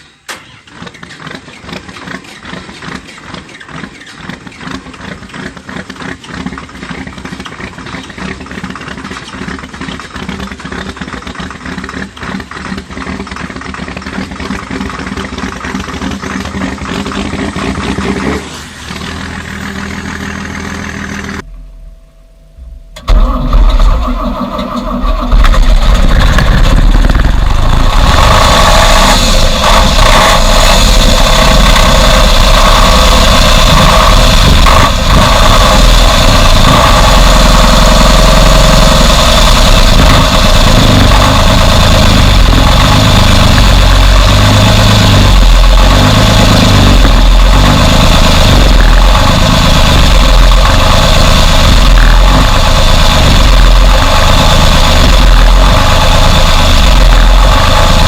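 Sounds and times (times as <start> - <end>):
diesel engine idling: 0.2 - 58.0.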